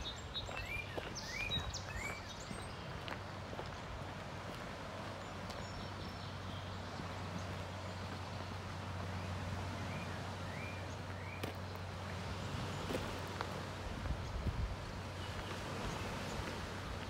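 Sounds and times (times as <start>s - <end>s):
footsteps crunching on dirt: 0.0s - 9.3s, 10.8s - 17.0s.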